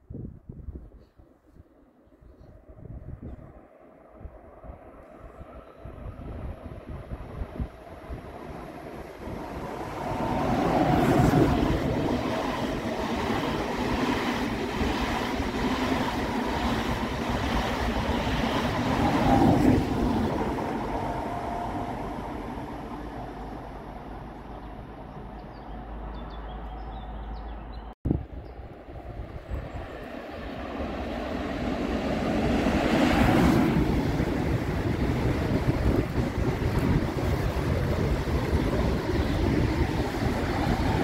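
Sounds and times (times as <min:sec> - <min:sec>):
high-speed train passing: 0:00.6 - 0:41.0.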